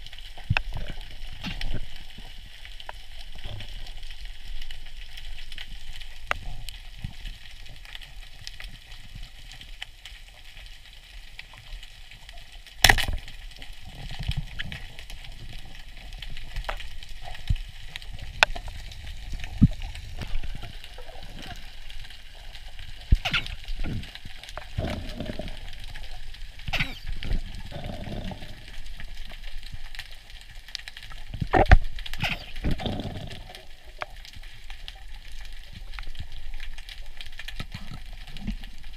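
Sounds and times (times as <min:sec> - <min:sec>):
sharp underwater clicks: 0:00.0 - 0:10.6, 0:11.3 - 0:38.9
muffled rushes of water: 0:00.0 - 0:38.9
underwater crackling hiss: 0:00.0 - 0:38.9.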